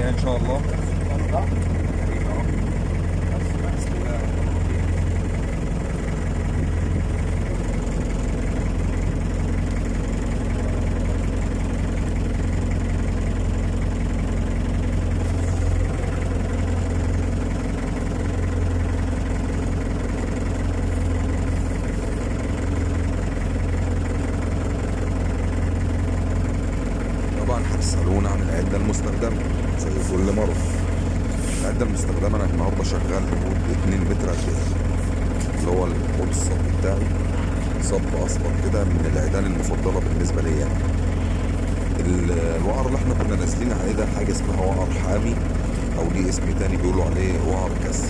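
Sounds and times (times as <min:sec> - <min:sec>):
boat engine idling: 0:00.0 - 0:48.0.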